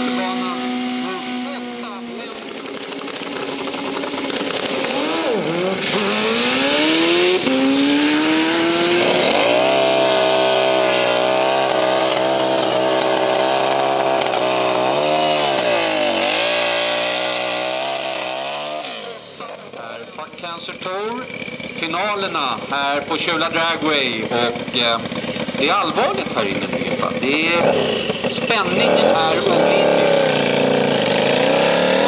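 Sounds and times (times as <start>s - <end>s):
racing engine at full throttle: 0.0s - 32.0s.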